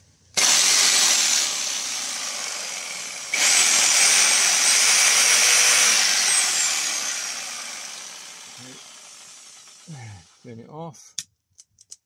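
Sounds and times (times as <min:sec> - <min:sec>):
electric jigsaw motor whine: 0:00.4 - 0:10.1.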